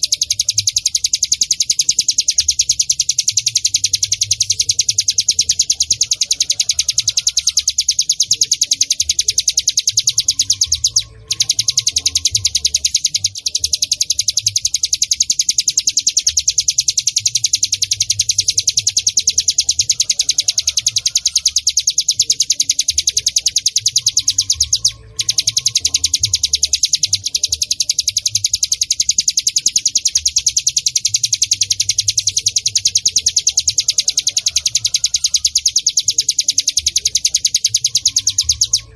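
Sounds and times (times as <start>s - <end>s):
bird rapid high chirps: 0.0s - 38.9s.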